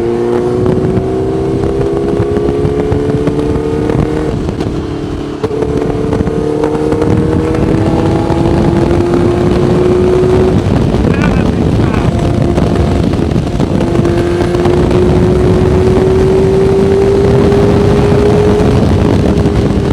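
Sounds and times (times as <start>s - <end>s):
motorcycle engine accelerating: 0.0s - 19.9s
rushing wind: 0.0s - 19.9s.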